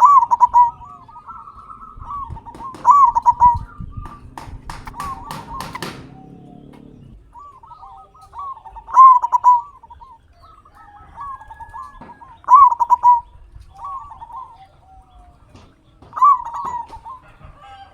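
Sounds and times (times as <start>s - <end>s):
dove cooing: 0.0s - 17.9s.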